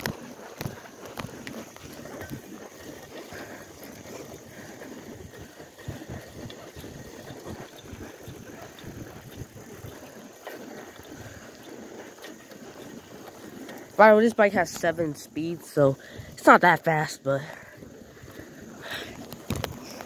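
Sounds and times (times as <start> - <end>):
wind over microphone: 0.0 - 11.9, 12.5 - 20.0
bicycle tyres rumbling on asphalt: 0.0 - 20.0.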